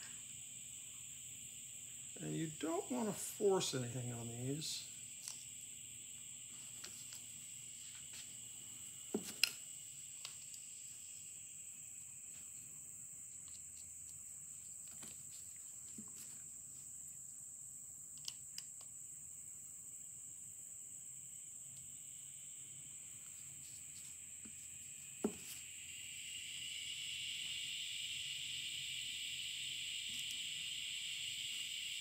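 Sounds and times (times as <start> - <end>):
steady high-pitched whine: 0.0 - 32.0.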